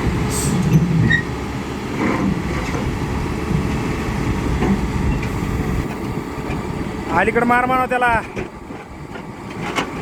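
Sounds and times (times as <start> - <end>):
diesel engine rumbling: 0.0 - 10.0.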